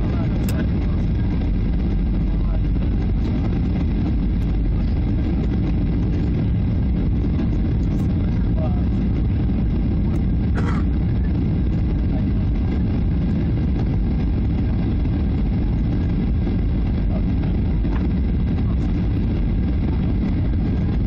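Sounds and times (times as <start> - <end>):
airplane cabin roar: 0.0 - 21.0.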